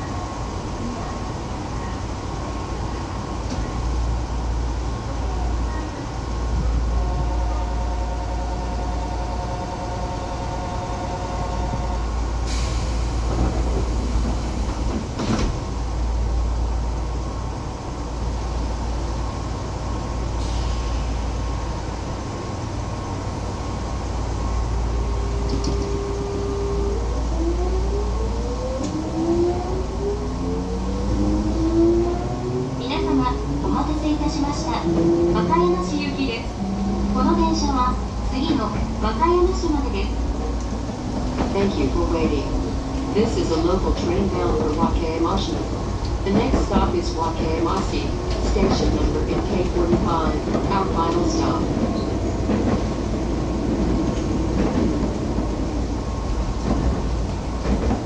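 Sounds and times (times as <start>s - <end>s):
train equipment hum: 0.0s - 58.0s.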